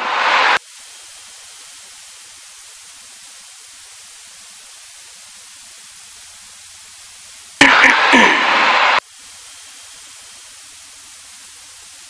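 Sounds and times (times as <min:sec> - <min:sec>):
electronic hiss on intercom: 0:00.0 - 0:12.0.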